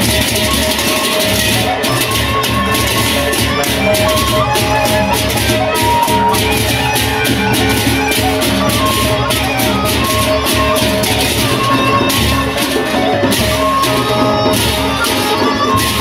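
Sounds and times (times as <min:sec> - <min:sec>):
drums: 0:00.0 - 0:16.0
hand cymbals clashing: 0:00.0 - 0:16.0.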